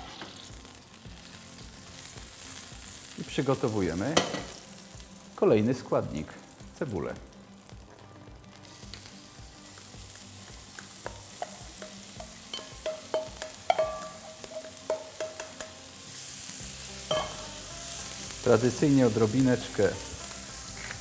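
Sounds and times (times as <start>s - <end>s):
onion sizzling in frying pan: 0.0s - 21.0s.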